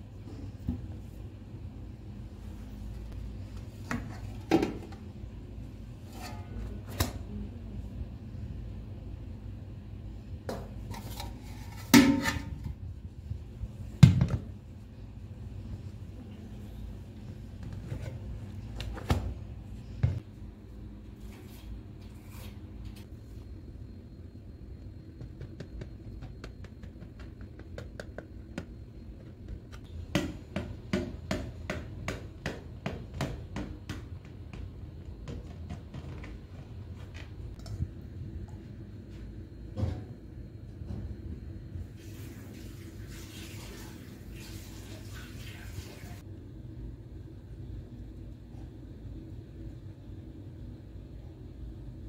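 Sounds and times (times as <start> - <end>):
low room hum: 0.0 - 52.0.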